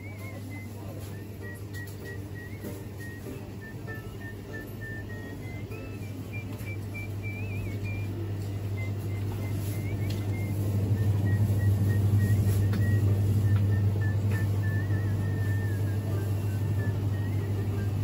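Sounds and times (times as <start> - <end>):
display cooler humming: 0.0 - 18.0.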